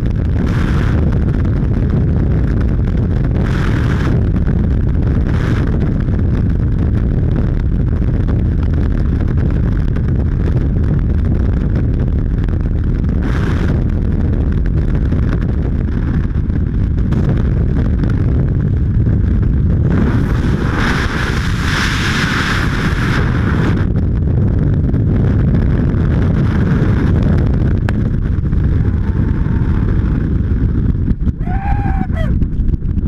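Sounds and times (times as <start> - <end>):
freefall wind rushing: 0.0 - 33.0.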